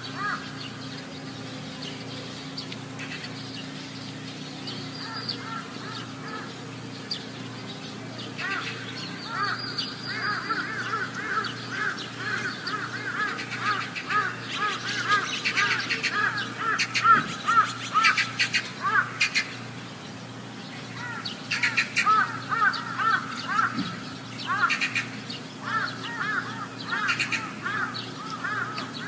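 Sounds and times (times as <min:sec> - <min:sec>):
sharp high-pitched bird calls: 0:00.0 - 0:19.6, 0:20.8 - 0:29.0
dense chorus of bird chirps: 0:00.0 - 0:29.0.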